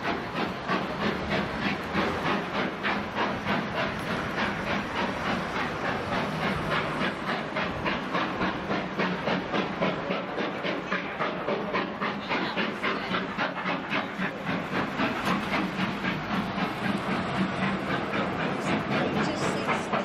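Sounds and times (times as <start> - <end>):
steam hiss: 0.0 - 20.0
steam locomotive chuffing: 0.0 - 20.0.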